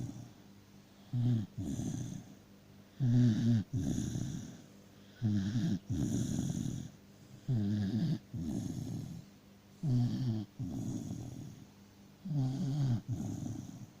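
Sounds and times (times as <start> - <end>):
dog snoring: 0.0 - 0.4, 1.0 - 14.0.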